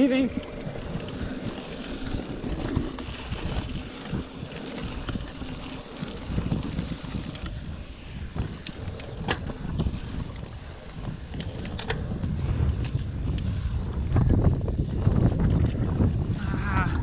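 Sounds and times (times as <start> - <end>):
mountain bike rumble and rattle: 0.0 - 17.0
wind buffeting microphone: 0.0 - 17.0.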